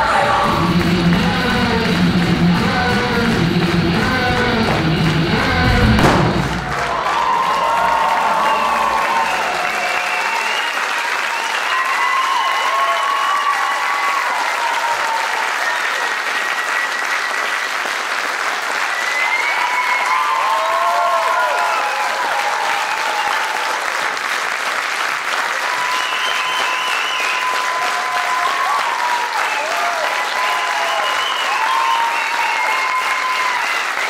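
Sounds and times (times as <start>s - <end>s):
audience applauding: 0.0s - 34.0s
cheers: 6.2s - 34.0s.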